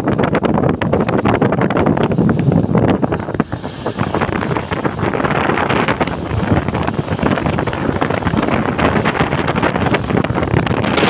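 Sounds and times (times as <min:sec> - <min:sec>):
water rushing from boat wake: 0:00.0 - 0:11.0
wind buffeting microphone: 0:00.0 - 0:11.0.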